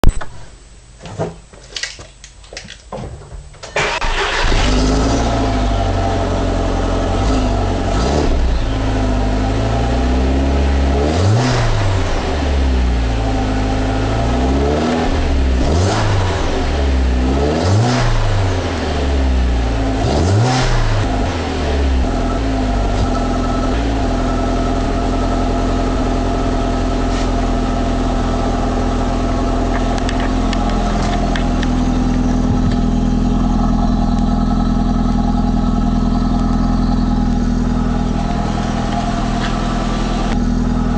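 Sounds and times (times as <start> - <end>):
car engine idling and revving: 3.8 - 40.9.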